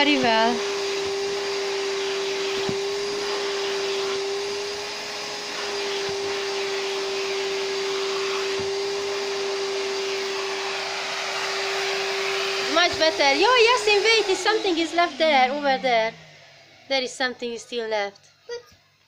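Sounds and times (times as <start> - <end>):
vacuum cleaner whining: 0.0 - 19.0.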